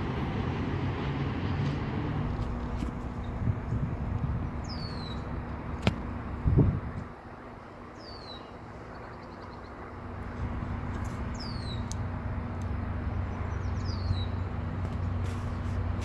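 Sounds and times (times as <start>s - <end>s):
train engine hum: 0.0s - 16.0s.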